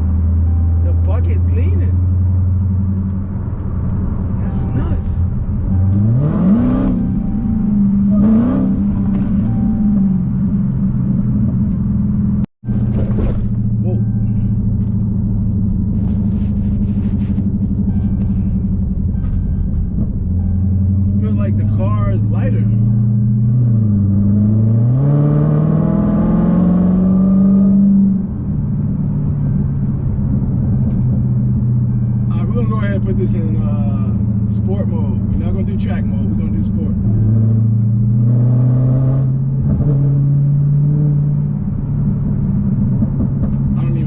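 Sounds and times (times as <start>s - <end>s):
car engine cruising: 0.0s - 44.0s.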